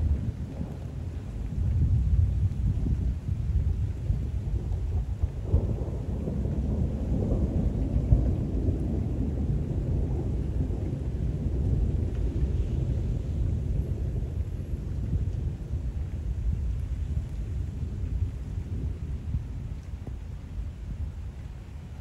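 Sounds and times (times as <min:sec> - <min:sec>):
rain falling: 0:00.0 - 0:22.0
thunder rumbling: 0:00.0 - 0:22.0.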